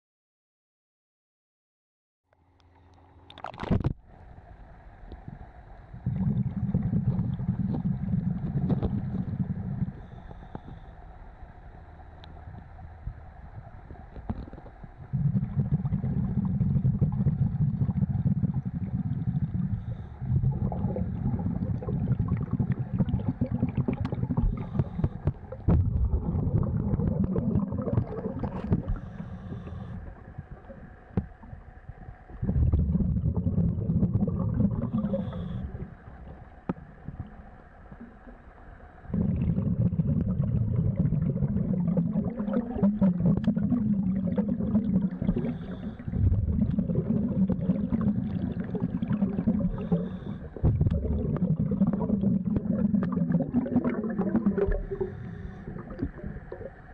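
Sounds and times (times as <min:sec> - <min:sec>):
underwater bubbles rumbling: 0:05.1 - 0:56.9.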